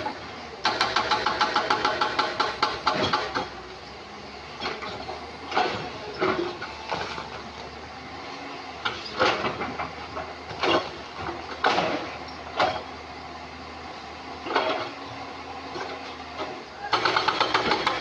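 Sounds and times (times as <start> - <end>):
excavator engine running: 0.0 - 18.0.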